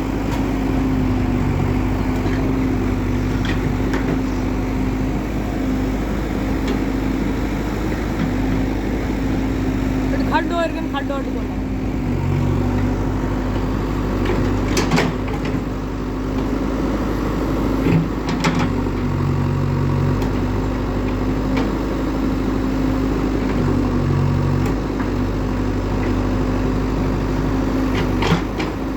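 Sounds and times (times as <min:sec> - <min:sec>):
heavy diesel machinery running: 0:00.0 - 0:28.9.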